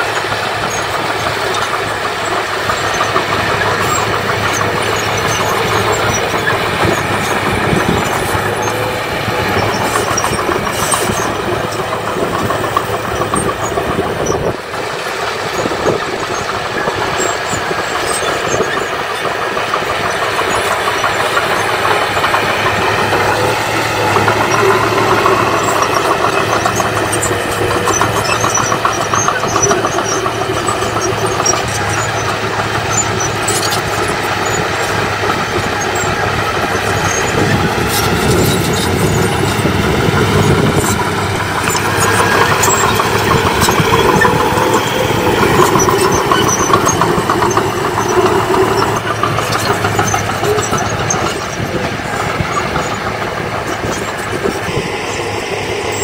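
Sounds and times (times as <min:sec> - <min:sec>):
bulldozer diesel engine running: 0:00.0 - 0:56.0
dozer pushing rocky soil: 0:00.0 - 0:56.0.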